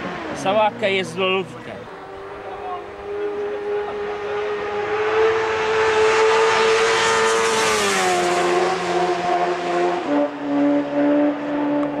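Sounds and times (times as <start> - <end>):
lower steady engine note: 0.0 - 12.0
motorcycle engine at high revs: 0.0 - 12.0.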